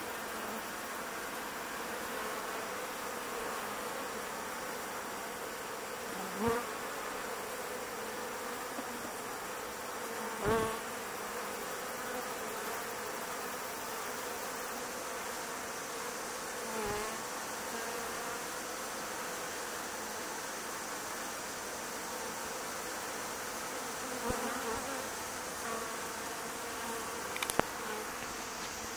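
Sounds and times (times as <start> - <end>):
bees buzzing: 0.0 - 28.9.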